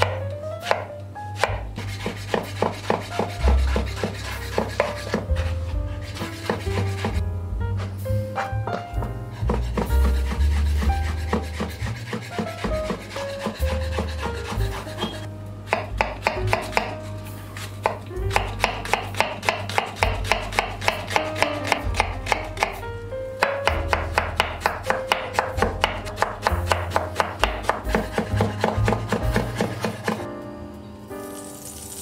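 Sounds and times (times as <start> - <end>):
knife chopping on cutting board: 0.0 - 5.5, 6.1 - 7.2, 8.4 - 17.0, 17.6 - 22.8, 23.4 - 30.2
background music: 0.0 - 32.0.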